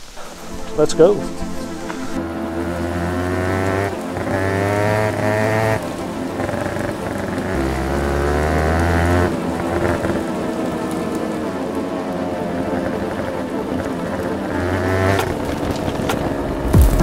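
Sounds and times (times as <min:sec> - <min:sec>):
two-stroke dirt bike engine revving: 0:02.1 - 0:17.0.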